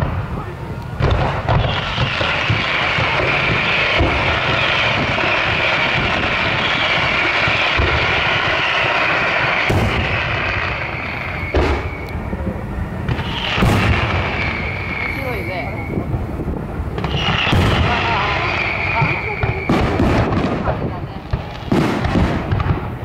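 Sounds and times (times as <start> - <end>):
firework shells booming: 0.0 - 23.0
fireworks crackling hiss: 0.0 - 23.0.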